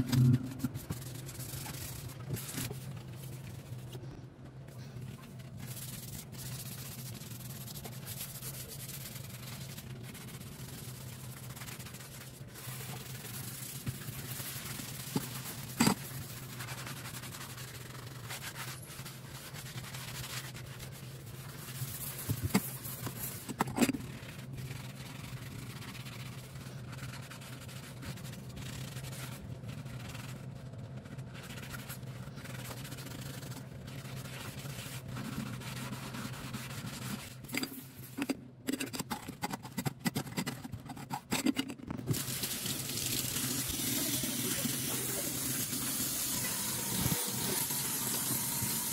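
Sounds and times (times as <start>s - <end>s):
gloved hand scrubbing metal sink: 0.0s - 4.0s, 4.7s - 30.4s, 31.0s - 48.9s.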